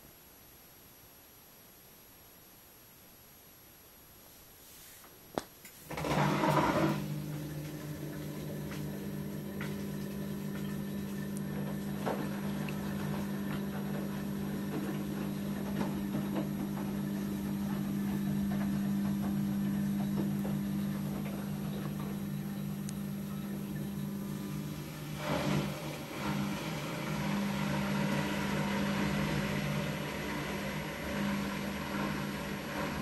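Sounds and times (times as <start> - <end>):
washing machine humming: 5.8 - 33.0.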